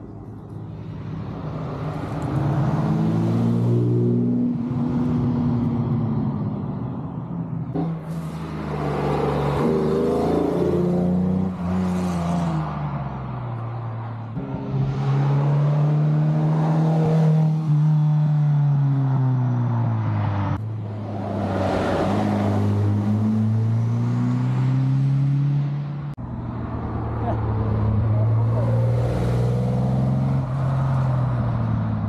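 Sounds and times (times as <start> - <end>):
race cars driving past: 0.8 - 32.0.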